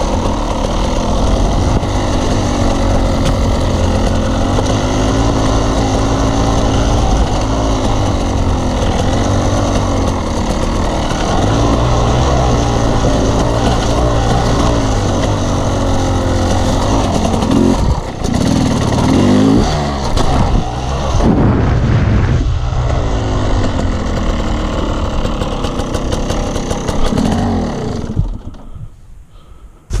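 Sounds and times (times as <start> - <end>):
off-road vehicle engine revving: 0.0 - 28.8.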